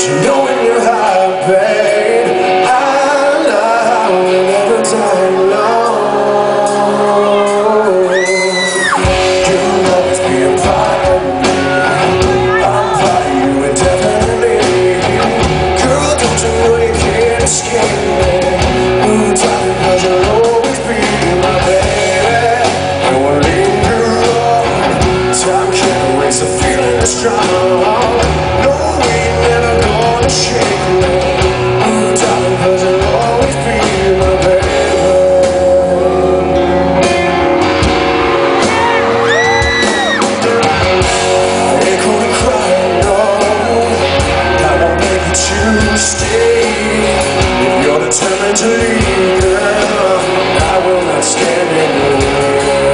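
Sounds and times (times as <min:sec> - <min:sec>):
person singing: 0:00.0 - 0:37.4, 0:38.2 - 0:52.9
drums: 0:00.0 - 0:52.9
electric guitars: 0:00.0 - 0:52.9.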